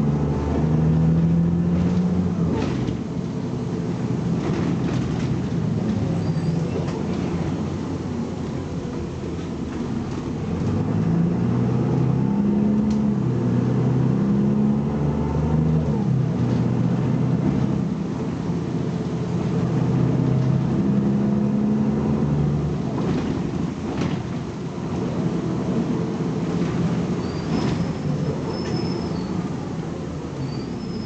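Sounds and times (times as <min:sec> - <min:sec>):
bus diesel engine accelerating: 0:00.0 - 0:31.0.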